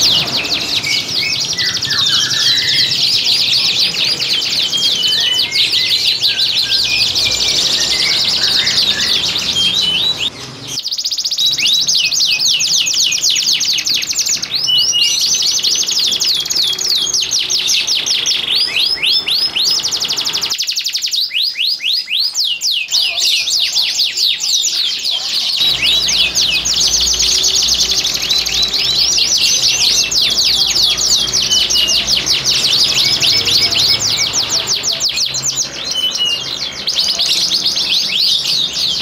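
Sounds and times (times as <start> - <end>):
bird with sharp down-slurred notes: 0.0 - 39.0
canaries singing trills: 0.0 - 39.0.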